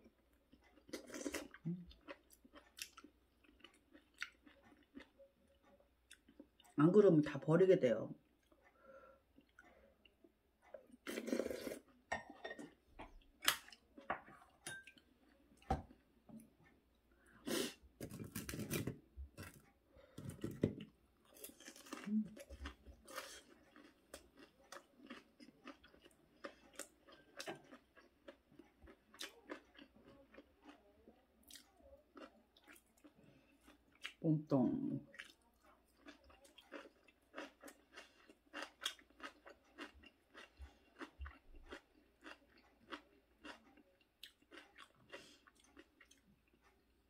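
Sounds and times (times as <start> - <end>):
chewing food: 0.0 - 6.8, 8.2 - 34.2, 35.0 - 47.0.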